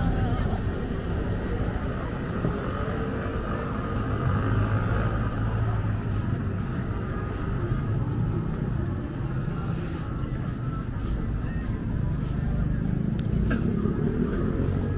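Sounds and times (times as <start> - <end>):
city background noise: 0.0 - 14.9
vehicle engine running: 0.0 - 14.9.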